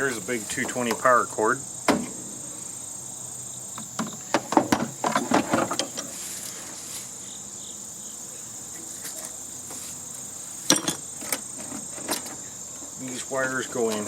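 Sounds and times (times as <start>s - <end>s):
insect chirring: 0.0s - 14.0s.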